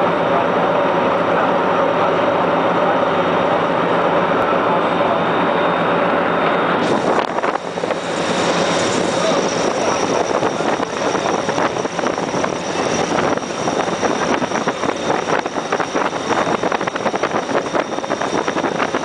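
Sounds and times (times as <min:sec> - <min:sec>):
vehicle running noise: 0:00.0 - 0:19.0.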